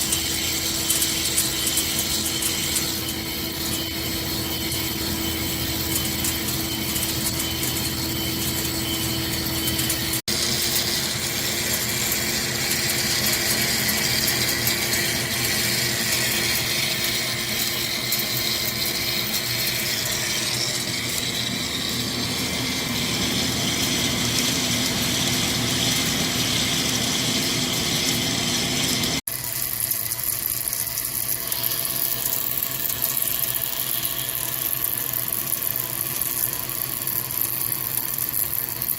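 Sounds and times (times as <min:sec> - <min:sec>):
lathe cutting metal: 0:00.0 - 0:38.9.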